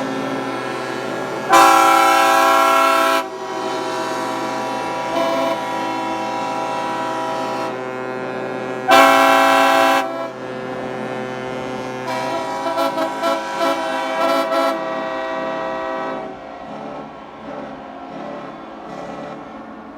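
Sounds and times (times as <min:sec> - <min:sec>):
short horn toots: 0:00.0 - 0:19.5
ship horns blasting: 0:00.0 - 0:19.8.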